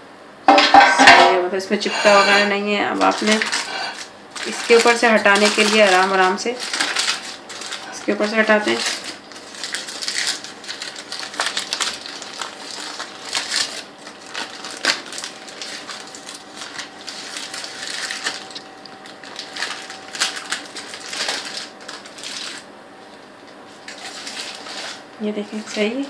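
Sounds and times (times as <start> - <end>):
paper crinkling and crackling: 3.0 - 26.0.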